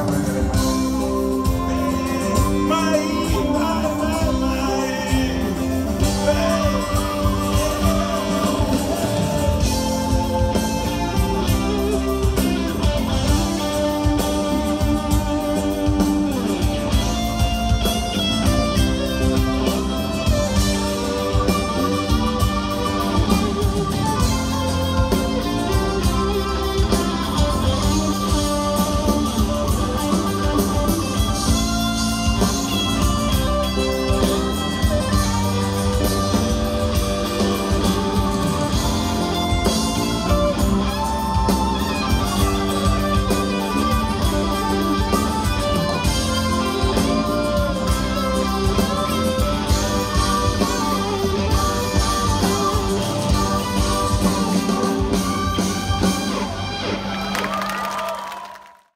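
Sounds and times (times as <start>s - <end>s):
live band instrumental: 0.0s - 58.9s.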